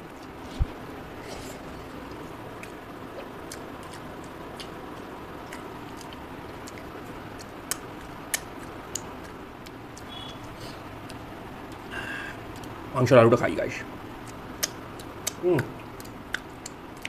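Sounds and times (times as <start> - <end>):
man chewing food: 0.0 - 12.9, 13.9 - 17.0.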